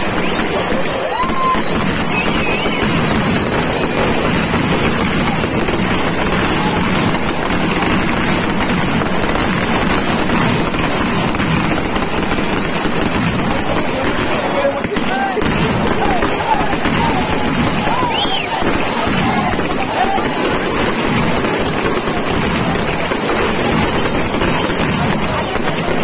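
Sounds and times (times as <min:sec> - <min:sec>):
firework fountain hissing: 0:00.0 - 0:26.0.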